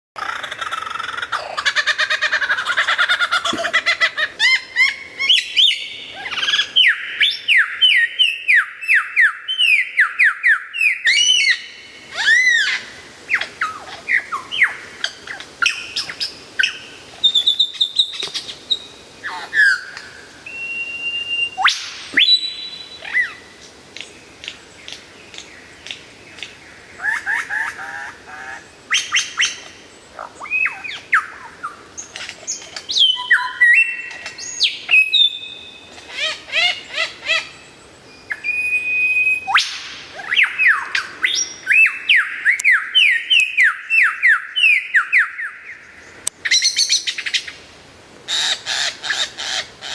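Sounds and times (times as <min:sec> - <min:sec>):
lyrebird singing: 0:00.2 - 0:47.6.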